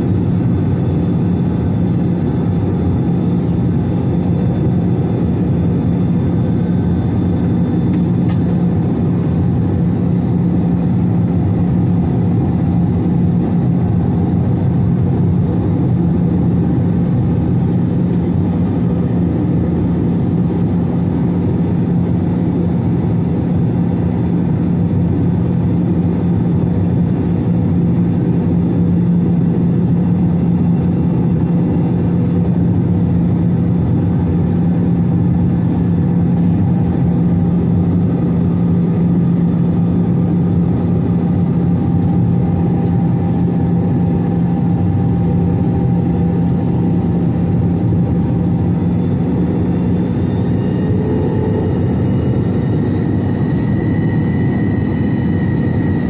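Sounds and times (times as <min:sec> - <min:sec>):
jet airliner cabin drone: 0:00.0 - 0:56.0.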